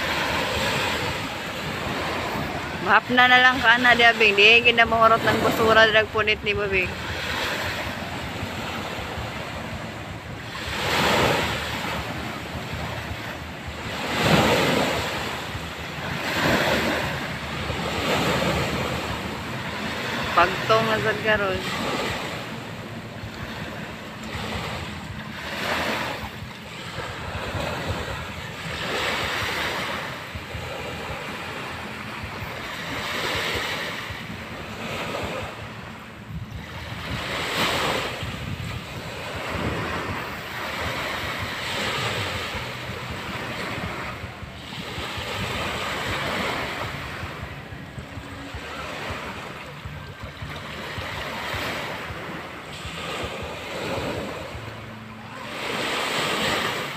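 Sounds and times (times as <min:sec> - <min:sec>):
wind buffeting microphone: 0:00.0 - 0:20.4, 0:21.3 - 0:54.9
sea waves breaking on shore: 0:00.0 - 0:56.9.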